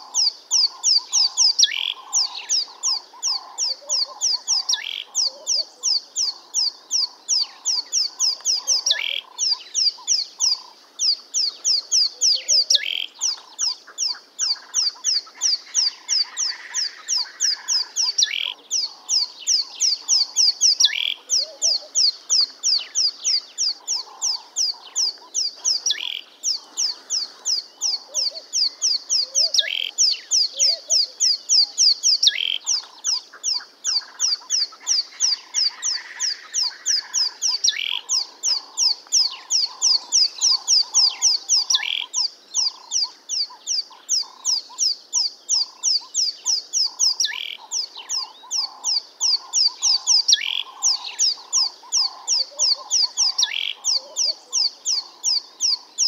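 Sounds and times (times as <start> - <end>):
low pulsing bird calls: 0.0 - 56.0
songbirds chirping: 0.0 - 56.0.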